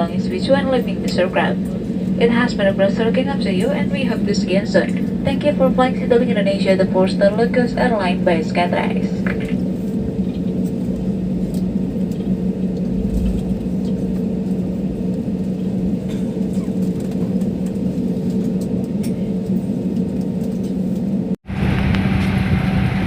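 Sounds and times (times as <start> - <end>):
airliner cabin rumble: 0.0 - 23.0
engine hum: 0.1 - 23.0.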